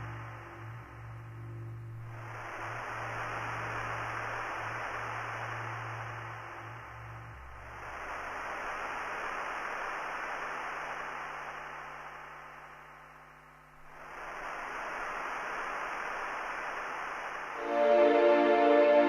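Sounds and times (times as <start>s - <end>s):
synthesized white noise hiss: 0.0s - 19.0s.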